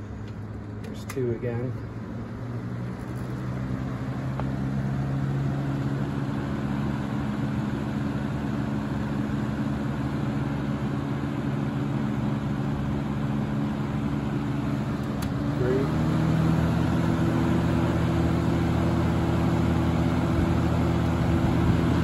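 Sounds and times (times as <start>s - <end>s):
fan motor hum: 0.0s - 22.0s
fan rushing air: 0.0s - 22.0s.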